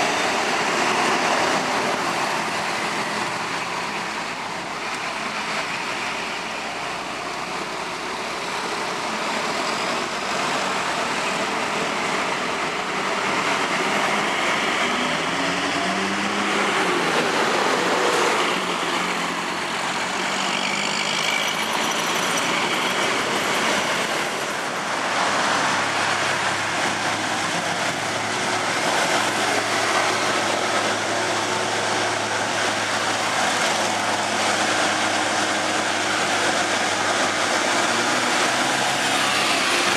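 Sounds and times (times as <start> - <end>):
heavy vehicle engines under load: 0.0 - 39.9
steady traffic noise: 0.0 - 39.9.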